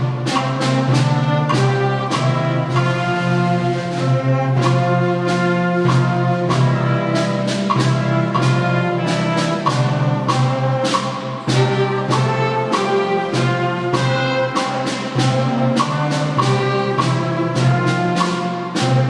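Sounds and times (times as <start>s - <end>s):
brass instruments playing: 0.0s - 19.0s
percussion beat: 0.0s - 19.0s.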